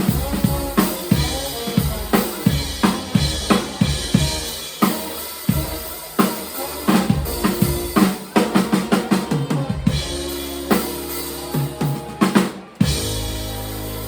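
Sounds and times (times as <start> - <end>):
drum kit fill: 0.0 - 14.0.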